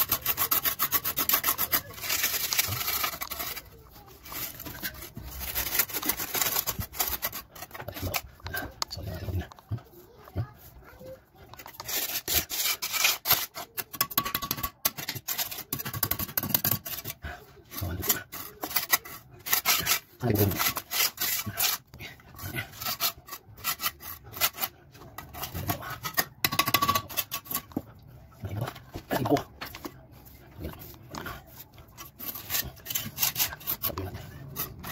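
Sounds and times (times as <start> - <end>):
hand tool rasping wood: 0.0 - 9.5, 11.6 - 26.3, 30.8 - 34.9.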